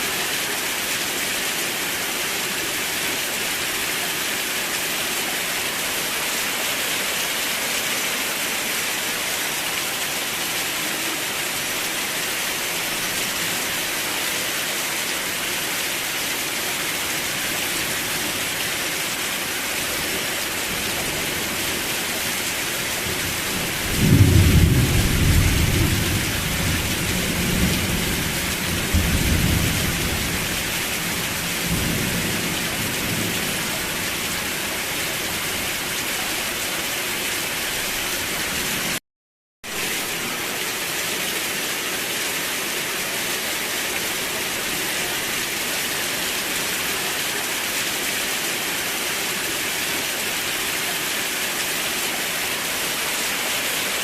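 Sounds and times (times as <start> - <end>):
steady rain falling: 0.0 - 39.0, 39.7 - 54.0.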